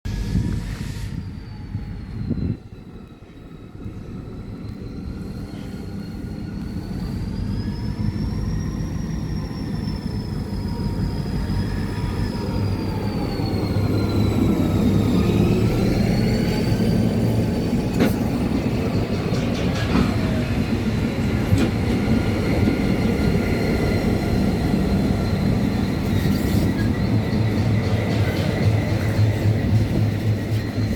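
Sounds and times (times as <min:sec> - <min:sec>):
diesel locomotives rumbling and whining: 0:00.1 - 0:30.9.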